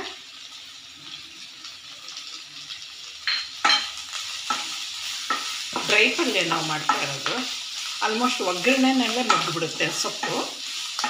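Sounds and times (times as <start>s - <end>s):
leaves and onion sizzling: 0.0s - 11.0s.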